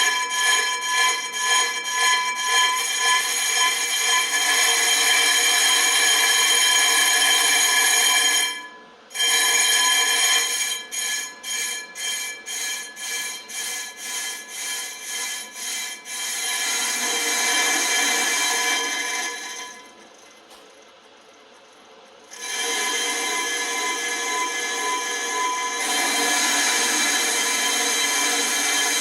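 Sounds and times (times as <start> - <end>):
lathe cutting squeal: 0.0 - 20.4, 22.2 - 29.0.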